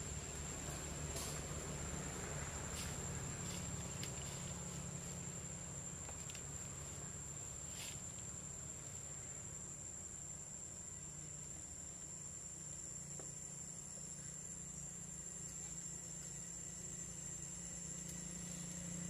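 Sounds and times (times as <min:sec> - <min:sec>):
low outdoor hum: 0:00.0 - 0:19.0.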